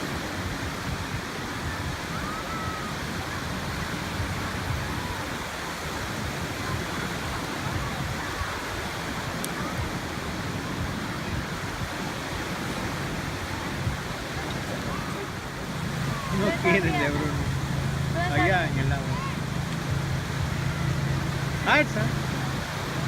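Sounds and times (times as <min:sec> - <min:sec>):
waves at the shore: 0:00.0 - 0:23.0
wind: 0:00.0 - 0:23.0.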